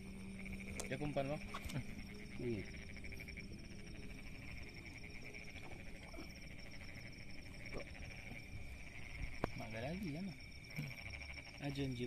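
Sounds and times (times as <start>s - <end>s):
frogs trilling: 0.0s - 12.0s
insects buzzing: 0.0s - 12.0s.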